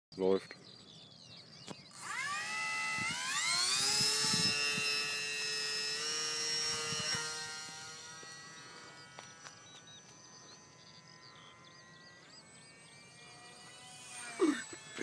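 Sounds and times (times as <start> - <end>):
electric motor and propeller whine: 1.7 - 15.0.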